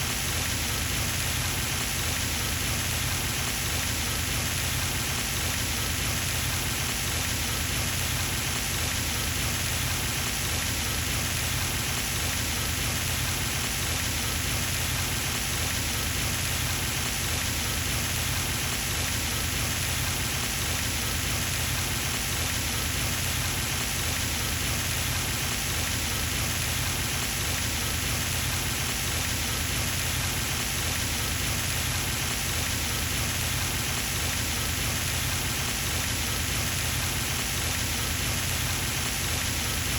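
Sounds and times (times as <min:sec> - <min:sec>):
fountain water splashing: 0:00.1 - 0:39.9.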